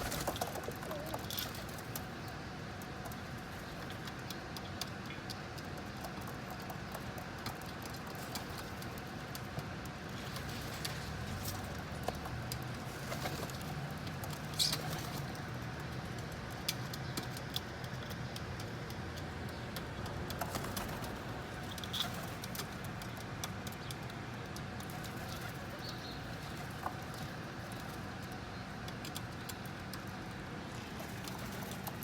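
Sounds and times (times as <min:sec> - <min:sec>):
pigeons pecking seeds: 0:00.0 - 0:32.0.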